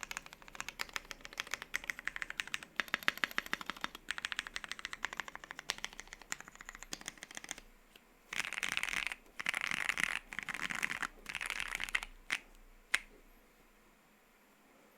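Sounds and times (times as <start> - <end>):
mechanical keyboard typing: 0.0 - 7.6, 8.3 - 13.1.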